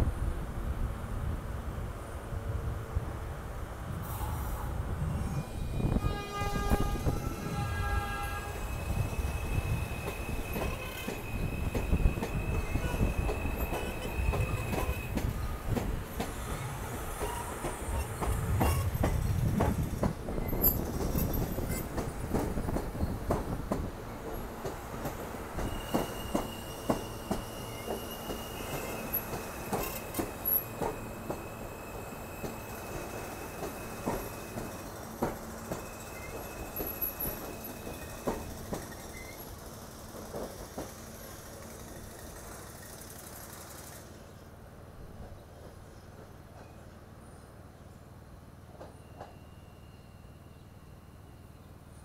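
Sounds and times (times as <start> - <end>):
subway train rumbling: 0.0 - 52.0.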